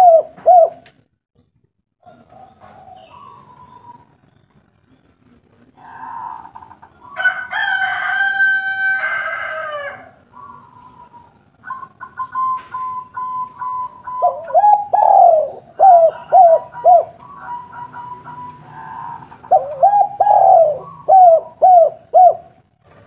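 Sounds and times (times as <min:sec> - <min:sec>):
doves cooing: 0:00.0 - 0:00.9, 0:02.0 - 0:04.4, 0:05.6 - 0:23.0.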